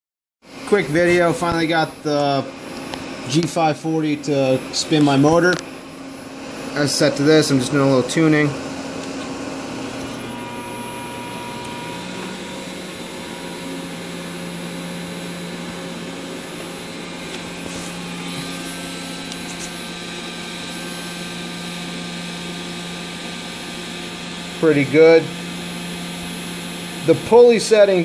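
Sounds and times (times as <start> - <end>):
lathe motor humming whine: 0.5 - 28.0.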